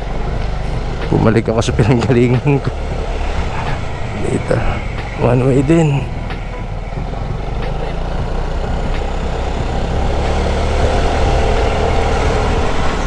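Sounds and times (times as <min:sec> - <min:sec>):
road and wind noise: 0:00.0 - 0:13.0
scooter engine running: 0:00.0 - 0:13.0.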